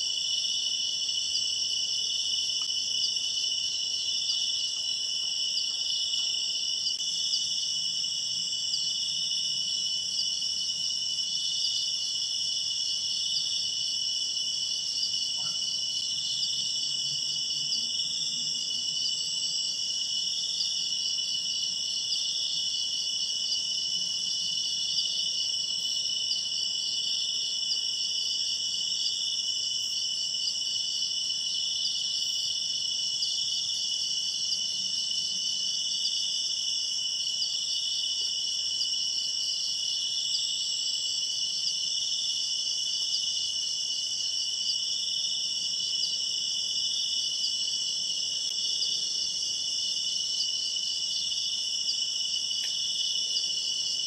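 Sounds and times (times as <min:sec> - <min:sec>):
crickets and insects trilling: 0:00.0 - 0:54.0.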